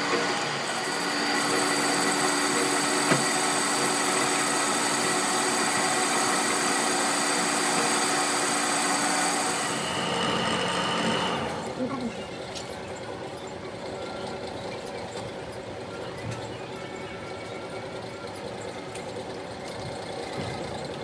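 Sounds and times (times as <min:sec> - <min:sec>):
workshop machine running: 0:00.0 - 0:21.0.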